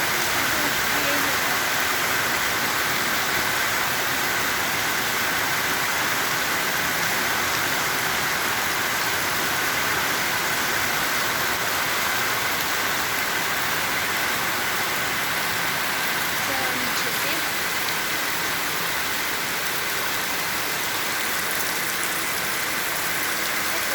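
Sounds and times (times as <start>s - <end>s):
heavy rain downpour: 0.0s - 23.9s.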